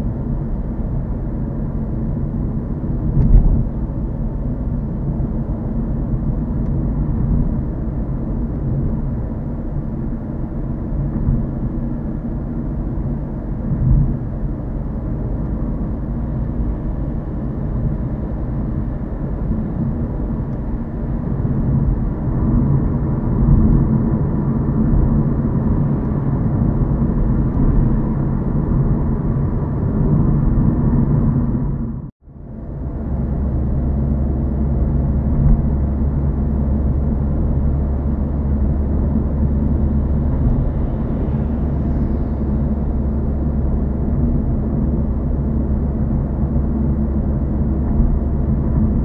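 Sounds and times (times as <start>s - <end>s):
car engine hum: 0.0s - 49.0s.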